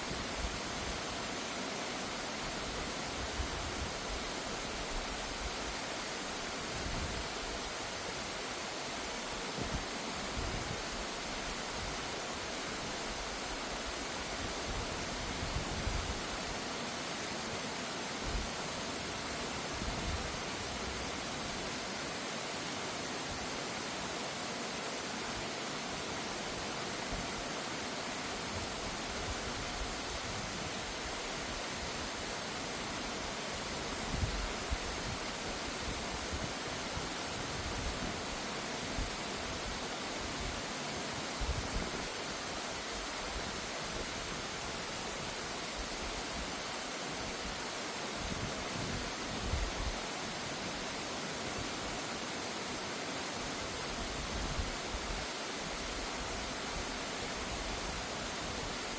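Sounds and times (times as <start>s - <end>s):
stream rushing over rocks: 0.0s - 58.9s.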